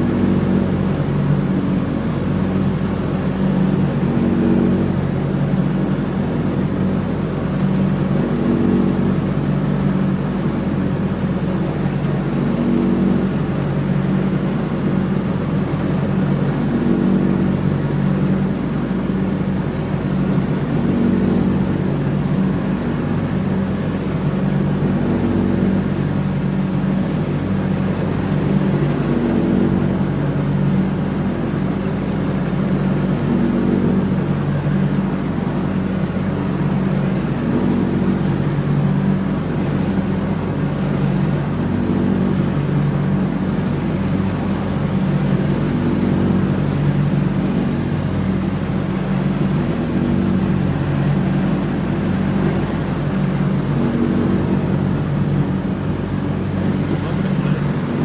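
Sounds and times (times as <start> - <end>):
riding lawn mower running: 0.0 - 58.0.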